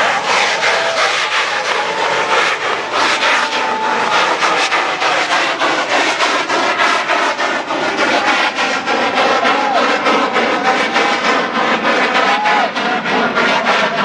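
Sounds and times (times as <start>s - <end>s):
firecracker bangs and crackles: 0.0s - 14.0s.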